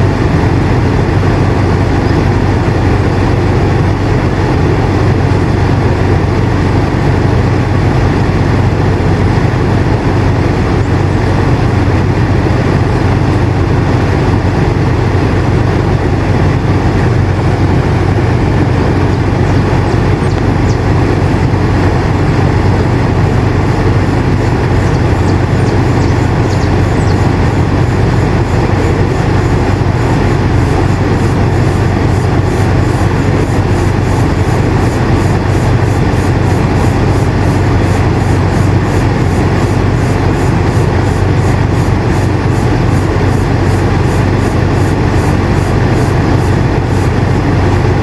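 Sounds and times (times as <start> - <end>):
air conditioner humming: 0.0 - 48.0.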